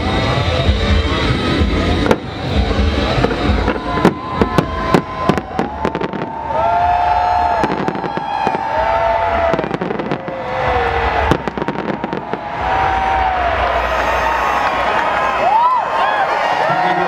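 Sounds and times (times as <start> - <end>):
fireworks bangs and crackles: 0.0 - 15.6
rising and falling pitched tones: 0.0 - 16.4.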